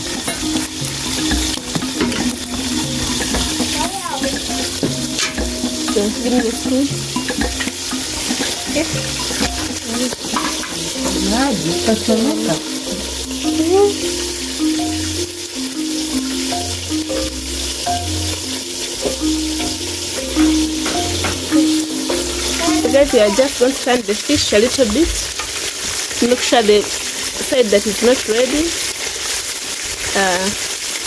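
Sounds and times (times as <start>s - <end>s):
wavering pitched sounds: 0.0s - 25.4s
fish sizzling in hot oil: 0.0s - 31.0s.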